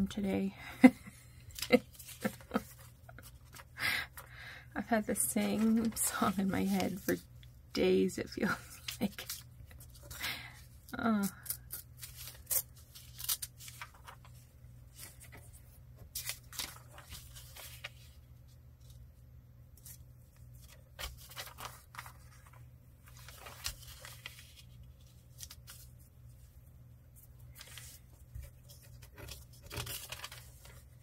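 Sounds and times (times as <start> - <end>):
paper crackling and rustling: 1.4 - 4.2, 5.1 - 7.4, 8.4 - 19.0, 19.8 - 26.6, 27.2 - 31.0.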